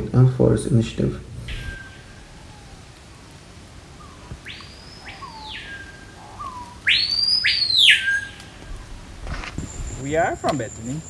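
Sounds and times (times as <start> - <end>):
bird whistling: 1.4 - 3.3, 3.9 - 11.0.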